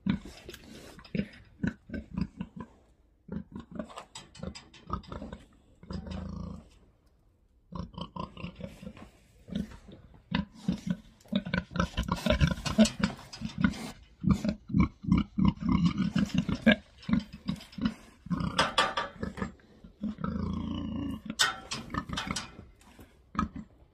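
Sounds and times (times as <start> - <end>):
pigs grunting: 0.0 - 6.8, 7.7 - 23.9.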